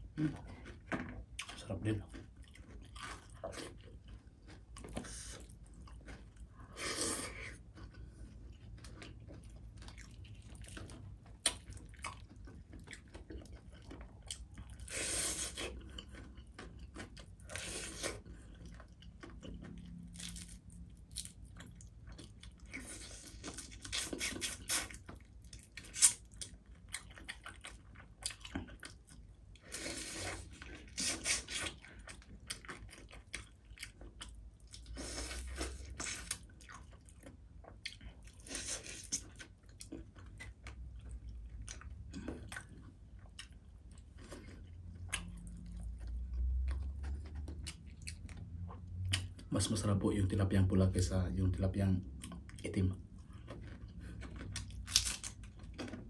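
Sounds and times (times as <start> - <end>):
chewing crispy fried fish: 0.0 - 56.0.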